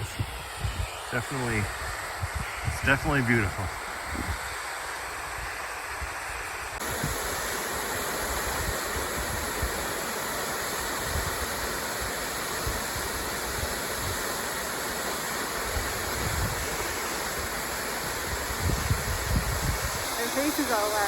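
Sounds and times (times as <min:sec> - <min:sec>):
waterfall rushing: 0:00.9 - 0:21.0.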